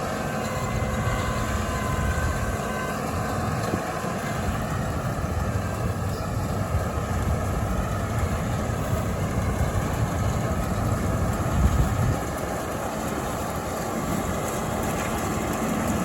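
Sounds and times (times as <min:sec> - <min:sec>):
heavy machinery engine rumbling: 0:00.0 - 0:16.0.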